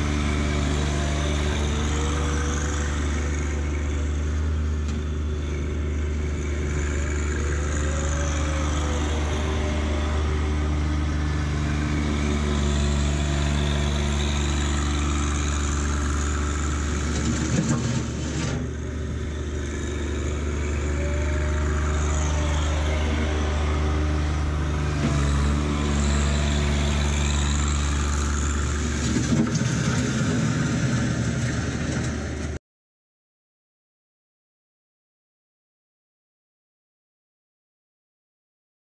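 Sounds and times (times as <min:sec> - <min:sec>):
tractor diesel engine running: 0:00.0 - 0:32.6.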